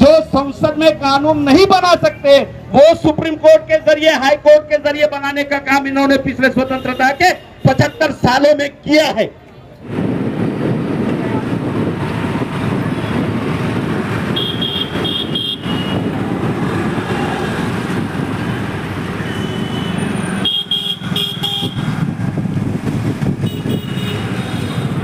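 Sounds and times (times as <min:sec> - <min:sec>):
street traffic engines: 0:00.0 - 0:25.0.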